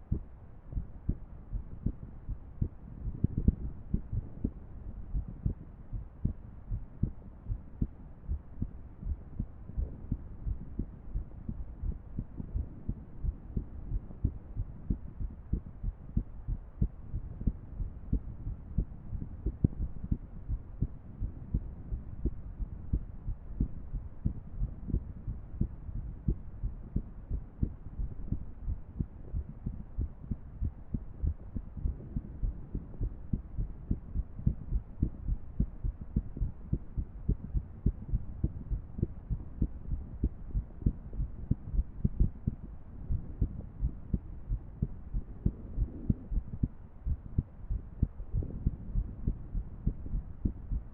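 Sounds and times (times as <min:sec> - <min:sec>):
irregular heartbeat: 0:00.0 - 0:50.9.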